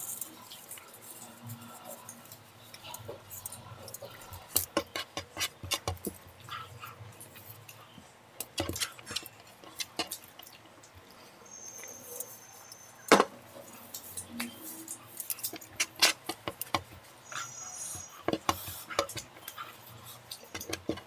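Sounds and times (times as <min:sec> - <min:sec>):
people chewing and slurping: 0:00.0 - 0:12.8, 0:13.4 - 0:21.0.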